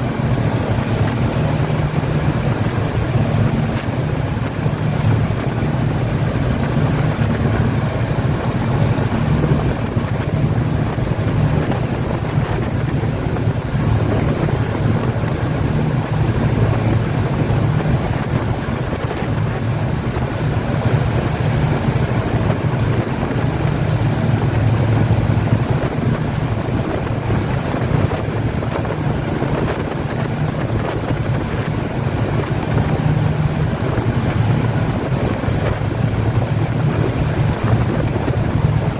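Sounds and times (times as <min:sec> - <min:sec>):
water rushing past hull: 0:00.0 - 0:38.9
wind buffeting microphone: 0:00.0 - 0:38.9.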